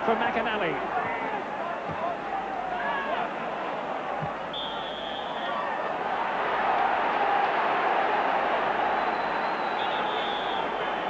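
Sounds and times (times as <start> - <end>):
stadium crowd noise: 0.0 - 11.0.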